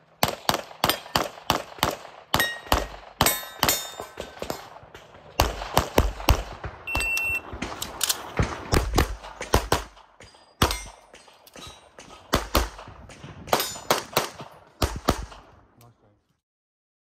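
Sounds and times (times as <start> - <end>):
rapid pistol fire: 0.2 - 11.3, 11.9 - 15.5.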